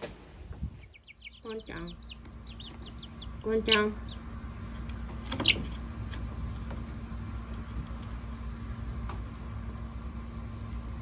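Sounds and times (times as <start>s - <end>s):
steady low hum: 0.0s - 11.0s
chick peeping: 0.5s - 9.5s.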